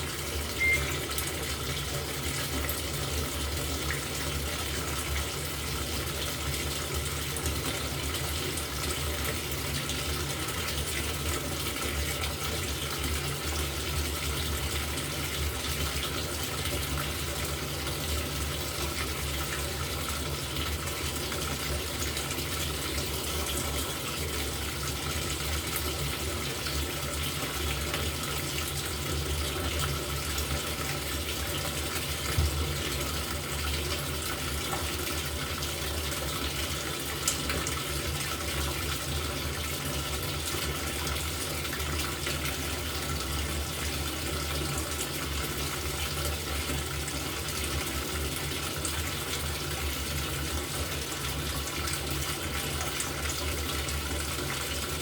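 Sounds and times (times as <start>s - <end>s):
washing machine filling with water: 0.0s - 55.0s.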